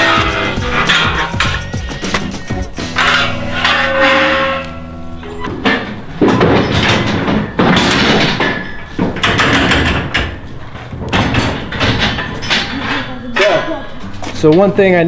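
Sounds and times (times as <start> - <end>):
metal gates clanking and banging: 0.0 - 15.0.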